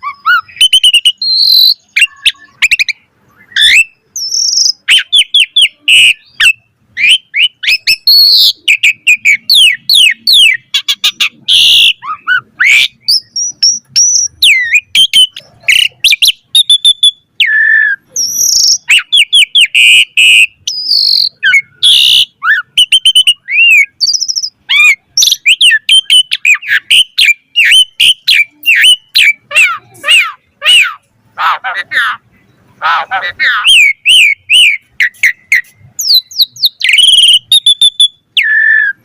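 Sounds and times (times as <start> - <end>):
bird singing whistled song: 0.0 - 31.0, 33.6 - 39.0
harsh grating bird notes: 0.0 - 39.0.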